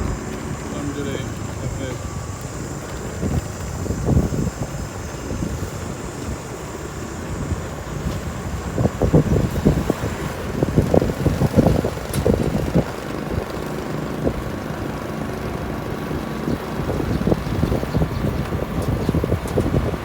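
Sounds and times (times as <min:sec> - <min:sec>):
motorcycle engine rumble: 0:00.0 - 0:20.0
wind buffeting microphone: 0:00.0 - 0:20.0.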